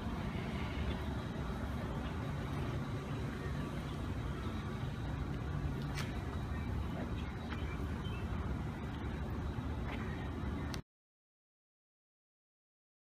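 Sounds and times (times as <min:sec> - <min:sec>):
vehicle engine idling: 0:00.0 - 0:10.8.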